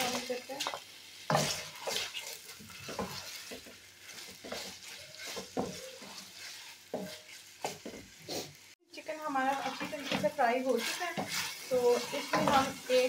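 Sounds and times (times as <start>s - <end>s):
chicken sizzling in oil: 0.0s - 13.0s
wooden spatula scraping a pan: 0.0s - 13.0s.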